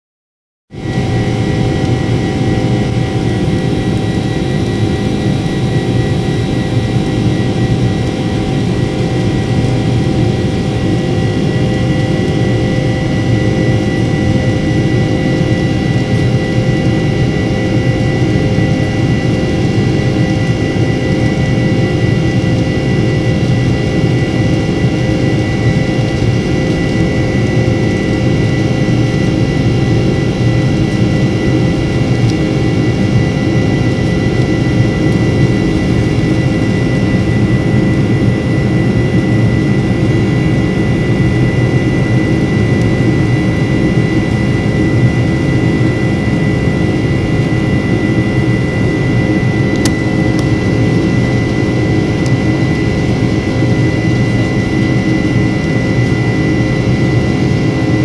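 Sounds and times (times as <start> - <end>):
jet engine rumble in cabin: 0.8 - 58.0.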